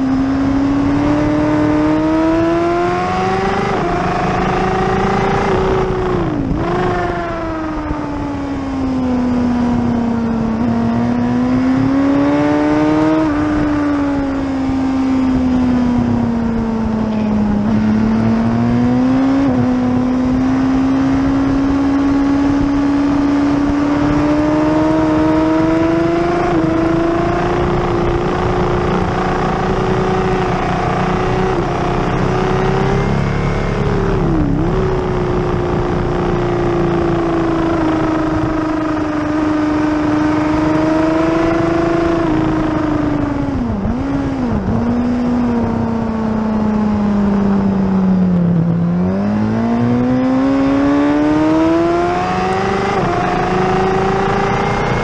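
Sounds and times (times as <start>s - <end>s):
wind rush: 0.0s - 50.6s
motorcycle engine at high revs: 0.0s - 55.0s.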